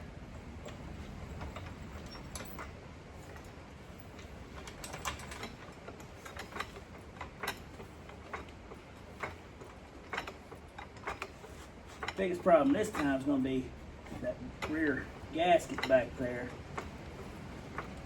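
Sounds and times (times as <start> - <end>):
low background hum: 0.0 - 18.0
light clicks and clinks of tools: 0.4 - 18.0.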